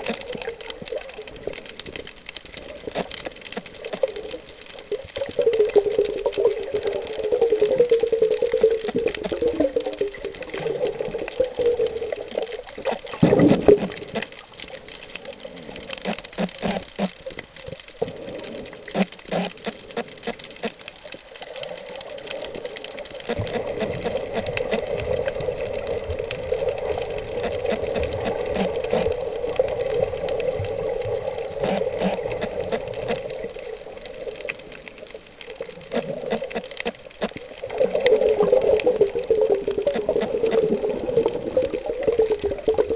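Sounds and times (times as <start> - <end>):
muffled underwater rush: 0.0 - 17.4, 21.5 - 42.9
underwater clicks and crackles: 0.0 - 42.9.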